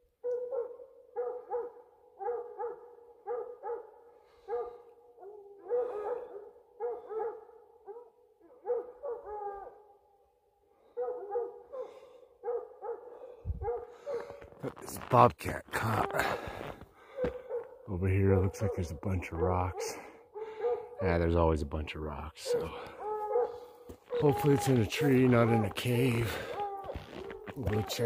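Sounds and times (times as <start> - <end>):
hounds baying: 0.2 - 9.9, 10.9 - 15.0, 15.8 - 21.3, 22.4 - 28.0.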